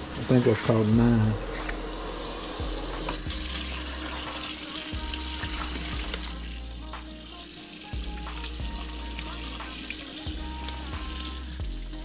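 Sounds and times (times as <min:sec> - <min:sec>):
tap water running into sink: 0:00.0 - 0:11.9
fish being rinsed: 0:00.0 - 0:12.0.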